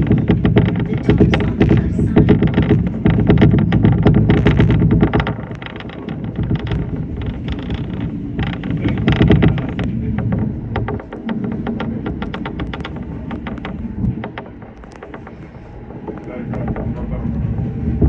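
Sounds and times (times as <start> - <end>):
electric train rumbling and clattering: 0.0 - 18.0.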